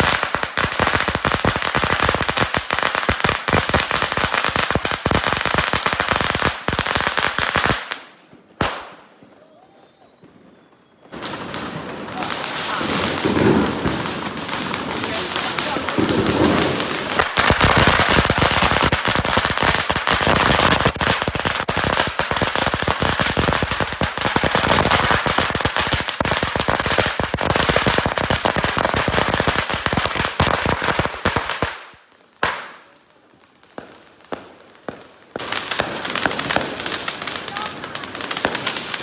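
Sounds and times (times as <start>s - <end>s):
firecrackers crackling: 0.0s - 39.0s.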